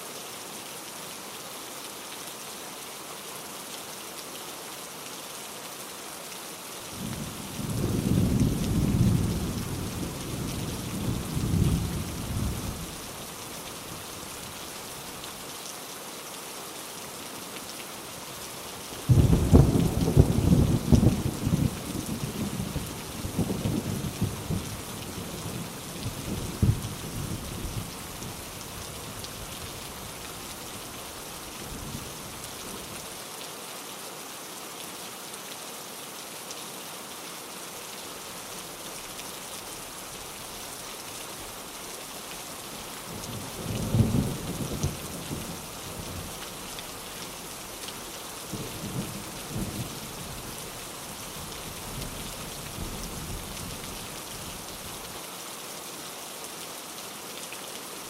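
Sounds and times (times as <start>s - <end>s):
heavy rain hissing: 3.9s - 35.6s, 37.4s - 58.0s.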